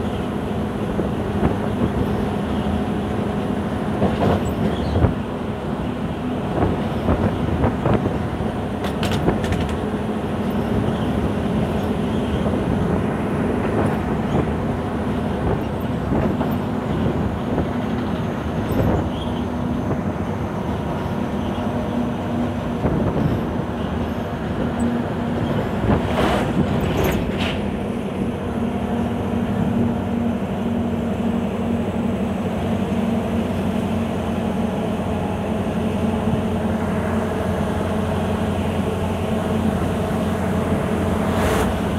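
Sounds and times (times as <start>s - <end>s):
truck engine running: 0.0s - 41.9s
tyre and road noise: 0.0s - 41.9s.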